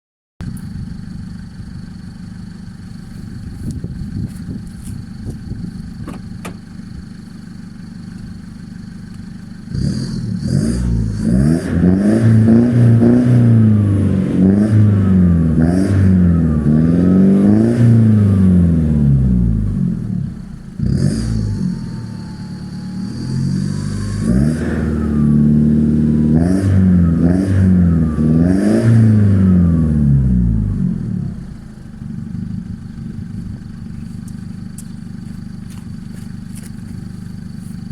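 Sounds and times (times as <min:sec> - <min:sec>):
diesel engine revving: 0:00.4 - 0:37.9.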